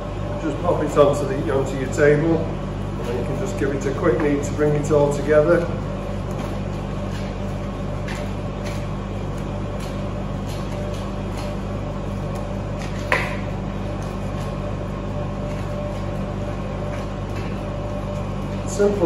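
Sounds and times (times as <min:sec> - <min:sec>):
dough kneaded by hand: 0:00.0 - 0:19.0
low machine hum: 0:00.0 - 0:19.0.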